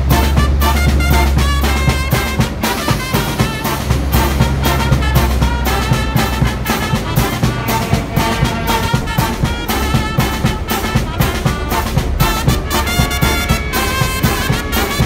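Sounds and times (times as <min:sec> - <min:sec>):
low bass notes: 0:00.0 - 0:15.0
steady beat: 0:00.0 - 0:15.0
trumpets and trombones playing: 0:00.0 - 0:15.0.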